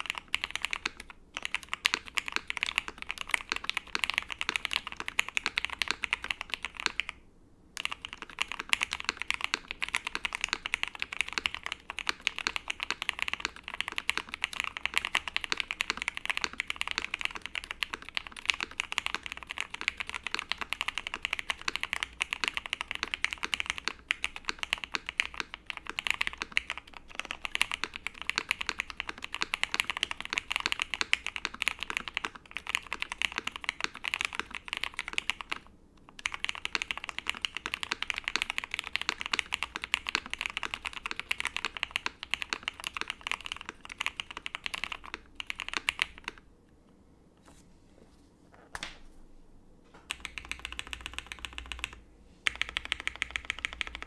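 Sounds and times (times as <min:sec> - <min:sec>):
fast typing on mechanical keyboard: 0:00.0 - 0:07.2, 0:07.8 - 0:46.4, 0:50.1 - 0:54.0.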